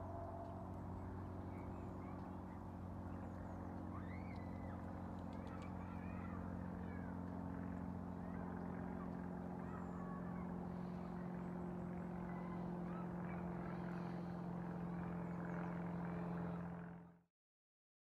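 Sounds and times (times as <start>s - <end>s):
engine running low hum: 0.0s - 17.2s.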